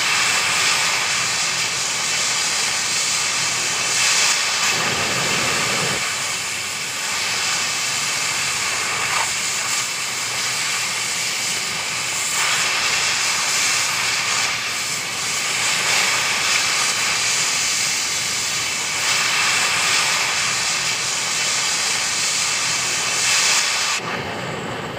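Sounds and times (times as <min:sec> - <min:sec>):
cutting torch hissing: 0:00.0 - 0:24.9.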